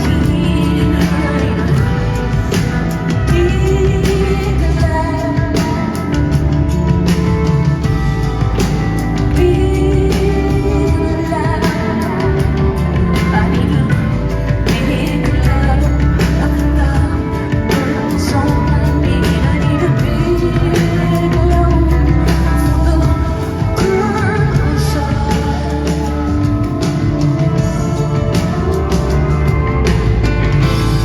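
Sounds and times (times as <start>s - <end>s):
heavy bass line: 0.0s - 31.0s
live rock band playing: 0.0s - 31.0s
woman singing: 0.0s - 31.0s.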